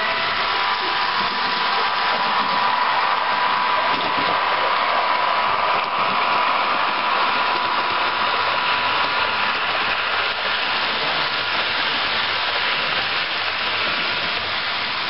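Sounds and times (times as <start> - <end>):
model trains rushing hiss: 0.0 - 15.0.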